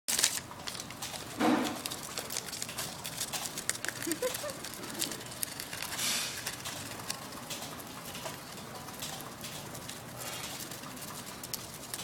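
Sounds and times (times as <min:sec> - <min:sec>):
bird tearing newspaper: 0:00.1 - 0:07.5, 0:09.4 - 0:12.0.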